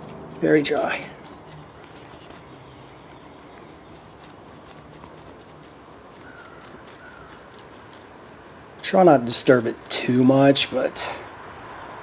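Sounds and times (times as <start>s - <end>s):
dry soil scratching and crumbling: 0.0s - 12.0s.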